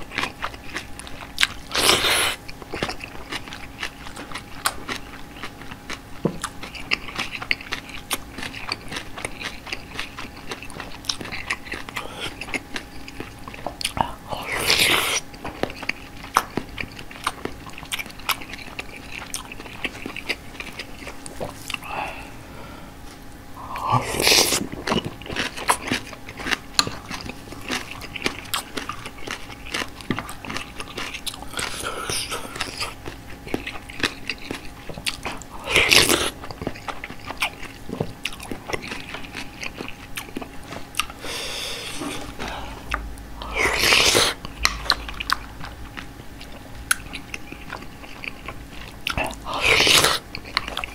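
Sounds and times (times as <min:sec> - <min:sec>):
wet crunching and chewing: 0:00.0 - 0:22.4, 0:23.0 - 0:50.9.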